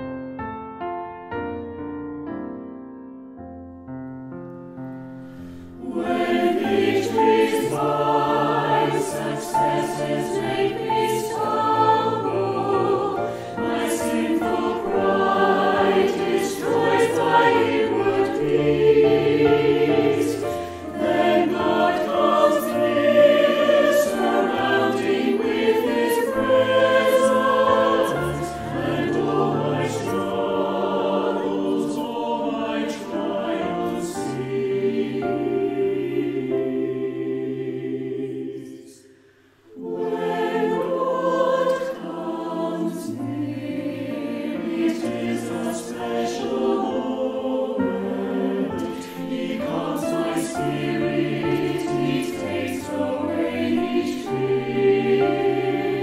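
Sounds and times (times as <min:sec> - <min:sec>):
choir singing a hymn: 0:05.2 - 0:56.0.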